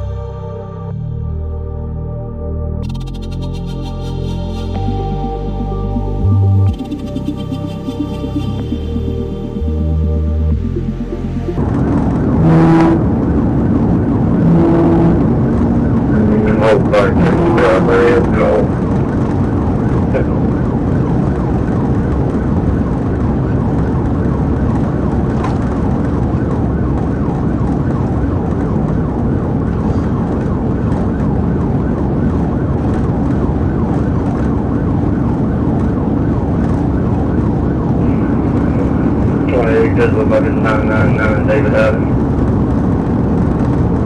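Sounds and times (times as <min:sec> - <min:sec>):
police siren wailing: 0:00.0 - 0:44.0
car engine and road noise: 0:02.8 - 0:44.0.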